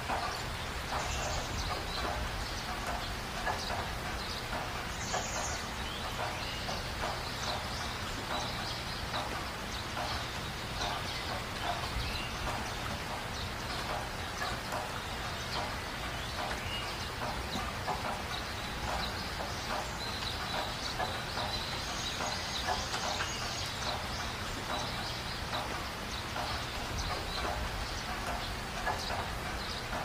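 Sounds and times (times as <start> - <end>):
birds calling: 0.0 - 30.0
steady background hiss: 0.0 - 30.0.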